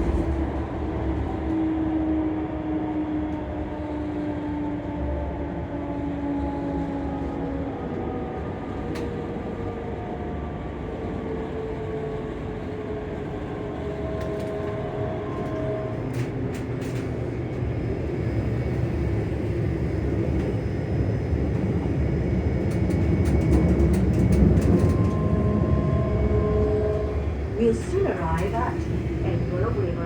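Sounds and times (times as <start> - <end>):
train traction motors humming: 0.0 - 3.9, 7.9 - 30.0
wheels rumbling on track: 0.0 - 30.0.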